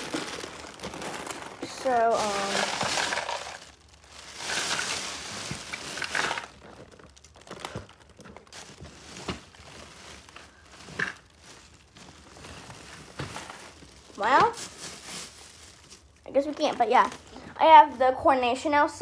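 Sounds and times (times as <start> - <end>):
rustling and handling noise: 0.0 - 19.0.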